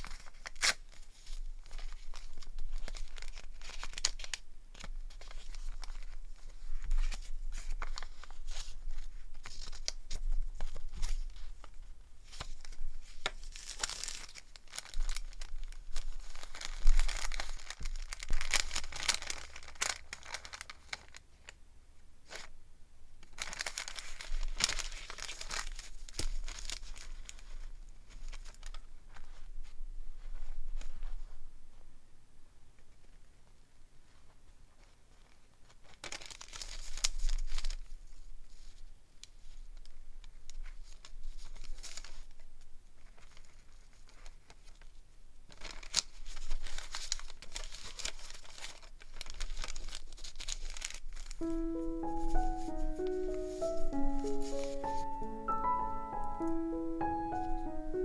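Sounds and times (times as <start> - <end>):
paper rustling and crinkling: 0.0 - 21.6, 22.3 - 22.5, 23.2 - 31.8, 34.0 - 58.0.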